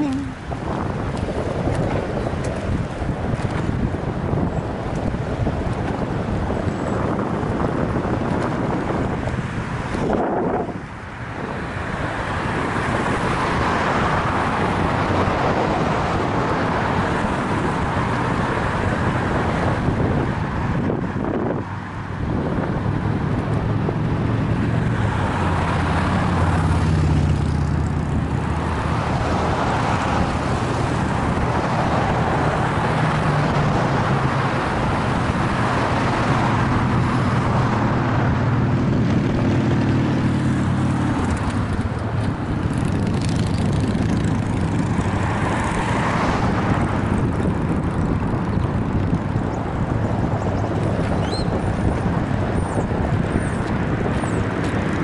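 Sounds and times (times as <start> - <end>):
car engines and tyres passing: 0.0 - 55.0
wind rumble on microphone: 0.0 - 55.0.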